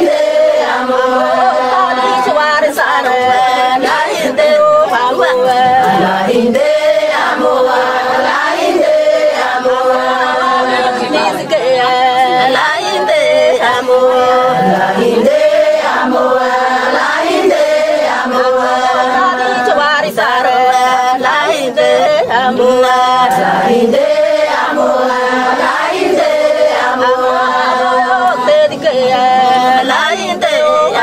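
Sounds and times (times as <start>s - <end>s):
group of voices singing a chant: 0.0s - 31.0s.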